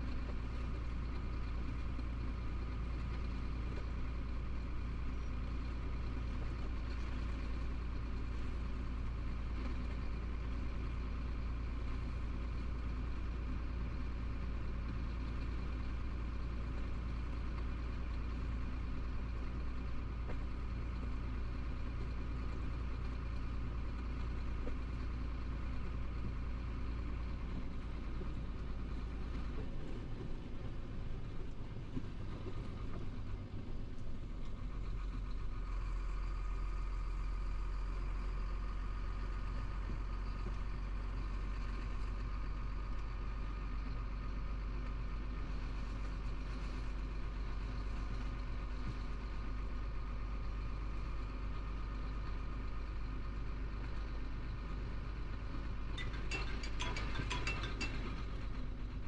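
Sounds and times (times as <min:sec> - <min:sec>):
diesel truck engine humming: 0:00.0 - 0:59.0.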